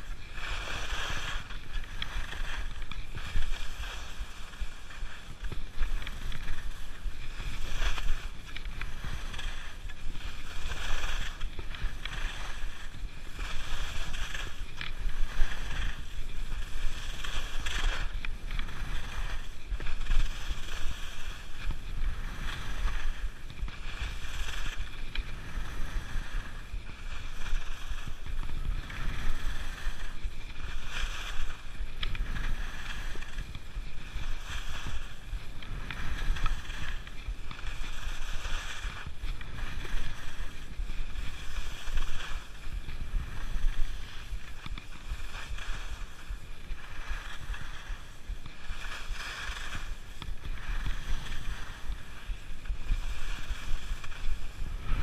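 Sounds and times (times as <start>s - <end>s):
skis scraping over snow: 0.0s - 55.0s
wind rumbling on microphone: 0.0s - 55.0s.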